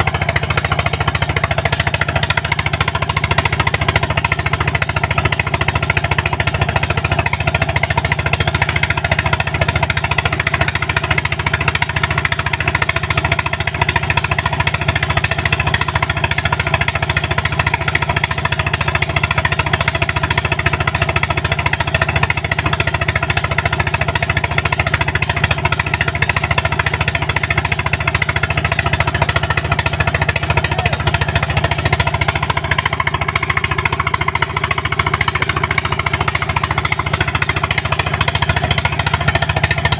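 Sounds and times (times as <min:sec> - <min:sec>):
pump engine clattering steadily: 0:00.0 - 0:39.9.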